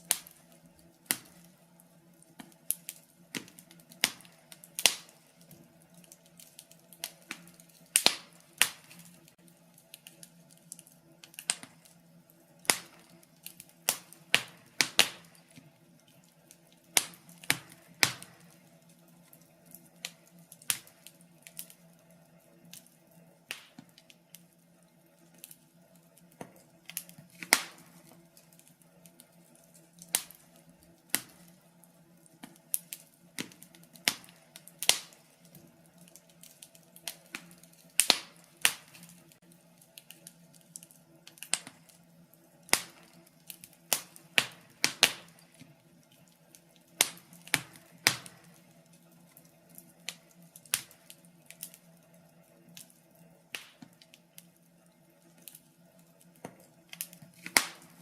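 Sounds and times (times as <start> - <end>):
faint steady hum: 0.0 - 58.0
wood fire crackling: 0.0 - 58.0.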